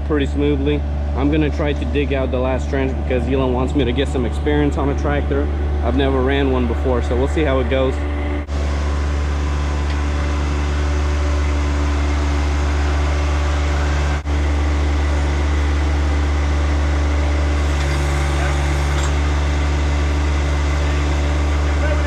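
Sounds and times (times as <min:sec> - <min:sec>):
backhoe tractor engine running: 0:00.0 - 0:22.0.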